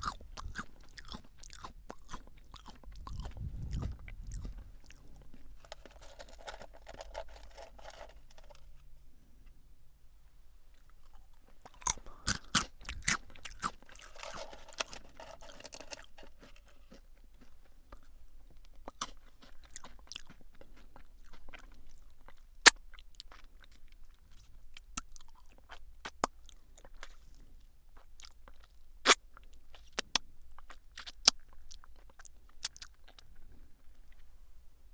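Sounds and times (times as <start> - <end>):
crunching and chewing potato sticks: 0.0 - 8.8, 10.7 - 34.3.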